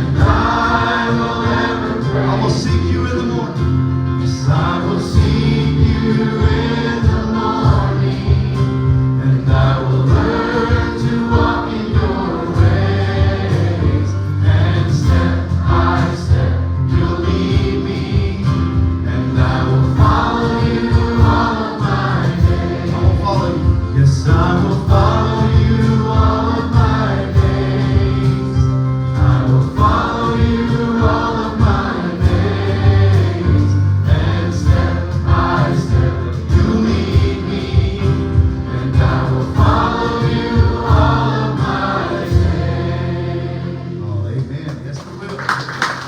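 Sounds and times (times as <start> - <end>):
band accompaniment: 0.0 - 46.0
gospel choir singing: 0.0 - 46.0.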